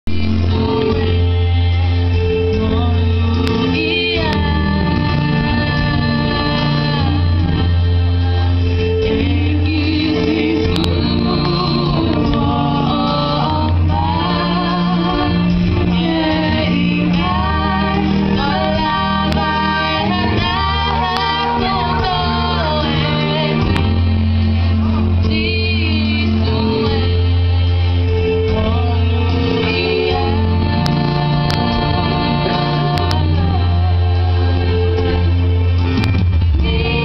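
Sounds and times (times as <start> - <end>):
electronic keyboard accompaniment: 0.1 - 37.0
women singing into microphones: 0.1 - 37.0.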